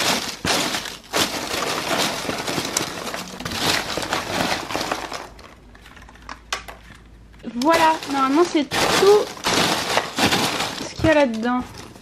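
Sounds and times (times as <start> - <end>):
paper crackling and rustling: 0.0 - 12.0.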